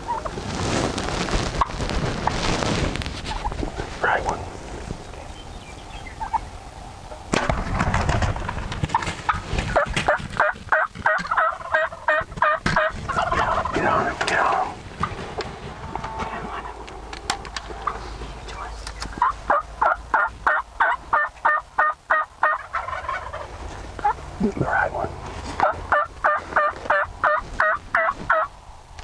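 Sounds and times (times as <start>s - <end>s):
turkeys gobbling: 0.0s - 0.4s, 3.3s - 4.8s, 5.6s - 28.6s
rustling noise: 0.0s - 5.4s, 7.3s - 21.5s, 22.6s - 29.0s.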